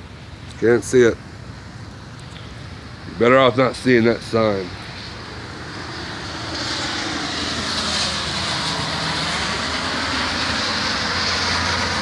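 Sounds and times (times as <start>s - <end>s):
vehicle engine drone with hiss: 0.0s - 12.0s.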